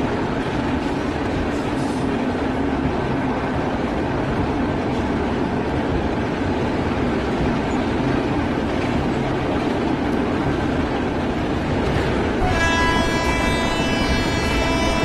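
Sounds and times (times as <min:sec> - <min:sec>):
electric locomotive running: 0:00.0 - 0:15.0.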